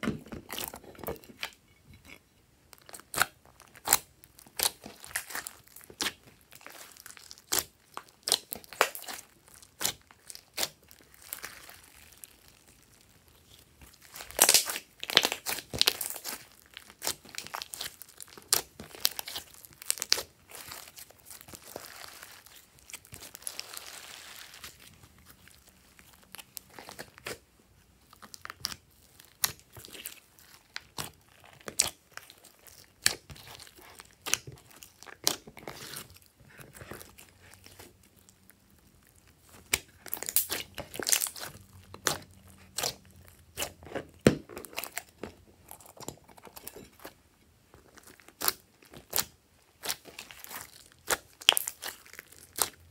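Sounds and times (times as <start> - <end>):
slime squelching: 0.0 - 52.9.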